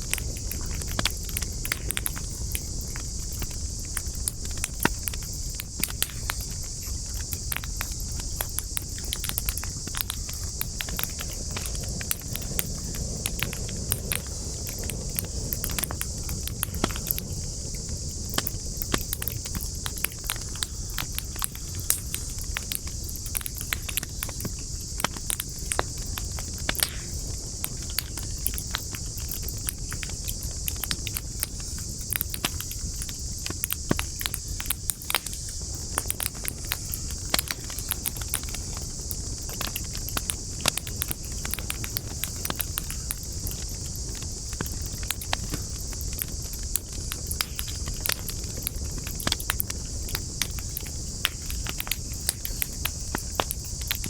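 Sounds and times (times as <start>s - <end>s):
campfire crackling and popping: 0.0s - 54.0s
high-pitched hiss: 0.0s - 54.0s.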